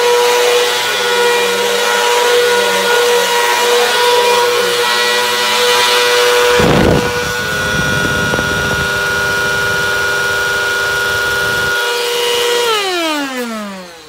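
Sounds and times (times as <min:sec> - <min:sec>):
loud noisy burst: 0:00.0 - 0:14.0
vacuum cleaner whining: 0:00.0 - 0:14.0.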